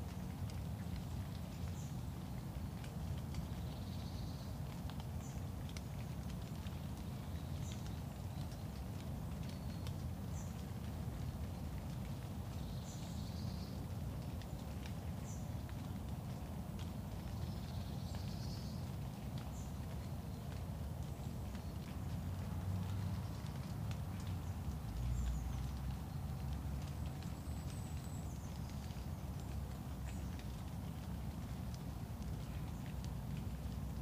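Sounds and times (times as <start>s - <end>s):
faint ticks: 0.0s - 34.0s.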